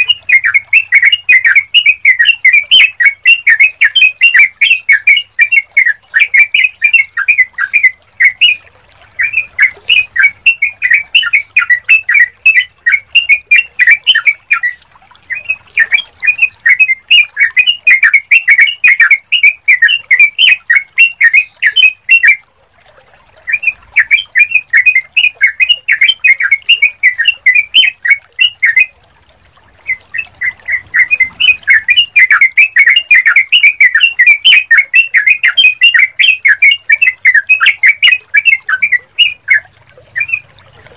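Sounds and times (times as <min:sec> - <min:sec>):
bird chirping rapidly: 0:00.0 - 0:22.4, 0:23.5 - 0:28.9, 0:29.8 - 0:40.9.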